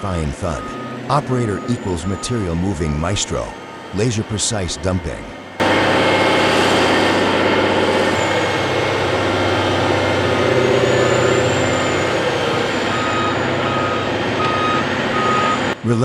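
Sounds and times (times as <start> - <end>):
diesel engines running under load: 0.0 - 16.0
reversing alarm beeping: 0.0 - 16.0.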